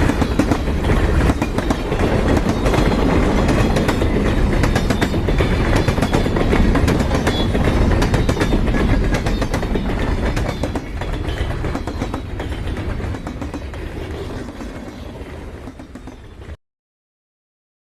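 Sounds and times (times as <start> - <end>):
wheels clattering over rails: 0.0 - 16.4
train rumbling: 0.0 - 16.6.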